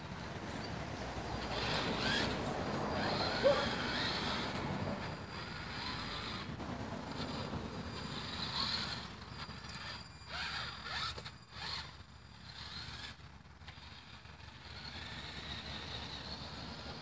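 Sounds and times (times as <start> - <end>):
toy car motor and gears whirring: 0.0 - 17.0
tyres scraping over asphalt: 0.0 - 17.0.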